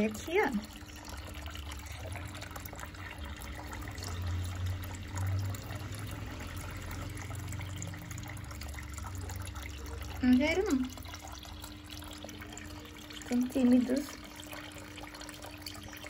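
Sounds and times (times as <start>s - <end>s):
fountain water pouring into basin: 0.0s - 16.0s.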